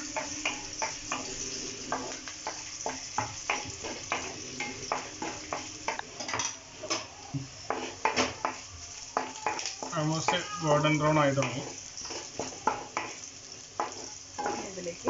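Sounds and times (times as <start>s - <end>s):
aromatics sizzling in oil: 0.0s - 15.0s.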